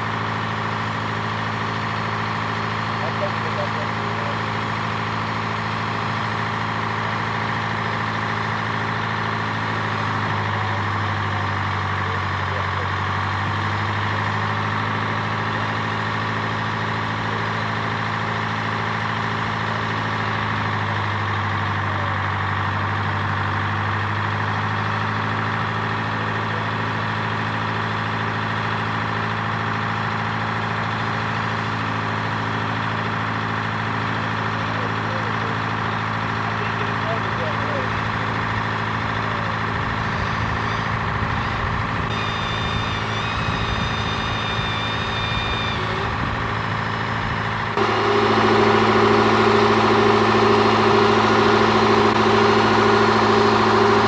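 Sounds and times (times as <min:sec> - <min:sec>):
crane engine idling: 0:00.0 - 0:54.0.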